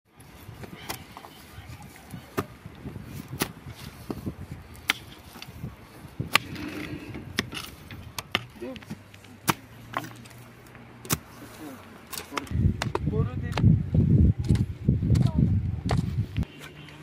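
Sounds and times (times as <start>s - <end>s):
shovel digging earth and stones: 0.2s - 13.7s, 14.4s - 17.0s.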